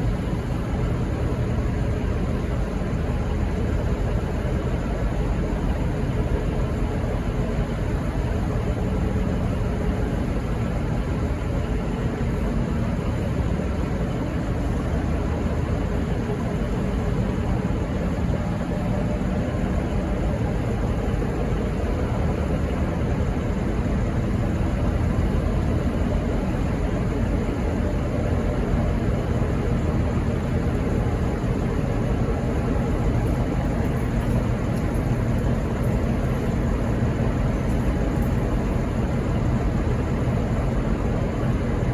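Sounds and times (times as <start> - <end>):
diesel locomotive idling: 0.0 - 41.9.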